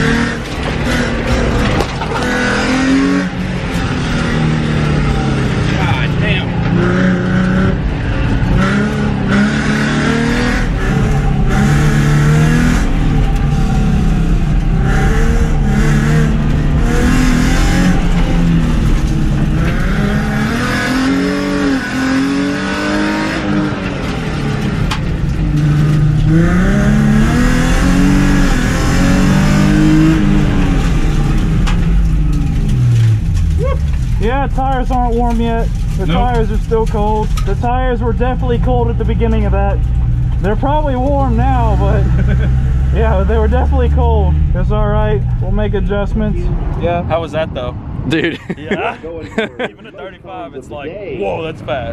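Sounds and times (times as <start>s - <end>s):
race car engine accelerating: 0.0s - 48.4s.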